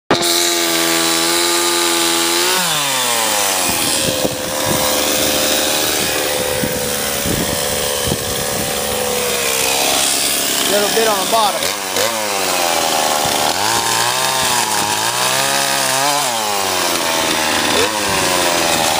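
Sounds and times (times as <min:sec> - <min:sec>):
chainsaw revving and idling: 0:00.1 - 0:18.9.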